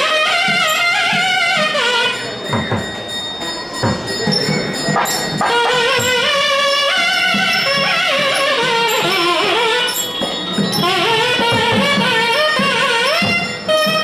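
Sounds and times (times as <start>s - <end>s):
gliding melodic instrument: 0.0s - 14.0s
steady high ringing: 0.3s - 14.0s.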